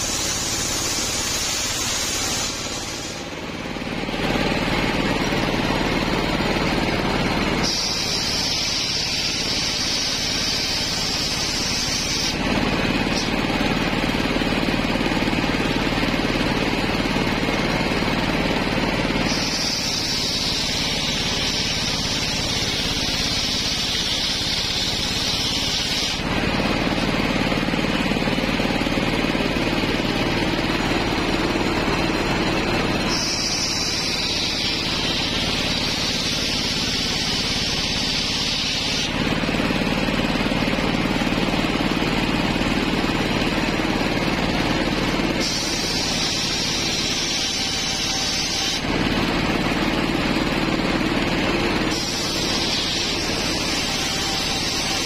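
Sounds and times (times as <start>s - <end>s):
circular saw cutting wood: 0.0s - 55.0s
engine droning: 0.0s - 55.0s.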